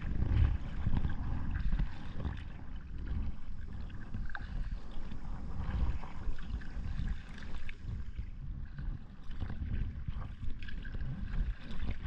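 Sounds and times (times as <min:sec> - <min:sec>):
low rumble: 0:00.0 - 0:12.0
paddle splashing in water: 0:00.0 - 0:12.0.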